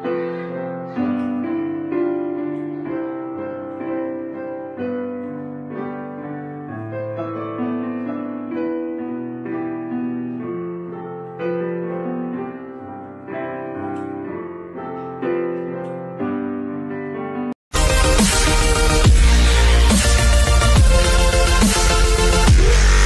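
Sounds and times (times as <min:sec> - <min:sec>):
slow piano piece: 0:00.0 - 0:23.0.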